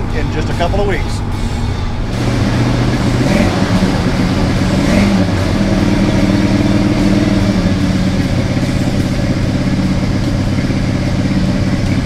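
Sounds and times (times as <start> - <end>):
car engine at fast idle: 0.0 - 12.0.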